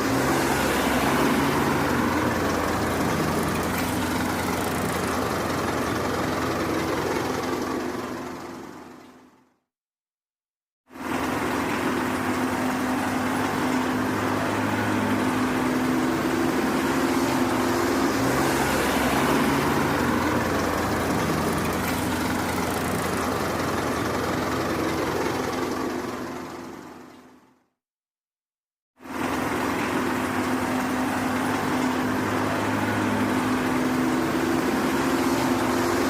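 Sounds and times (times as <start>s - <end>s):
heavy vehicle engine running: 0.0s - 9.6s, 11.0s - 27.7s, 29.0s - 36.0s.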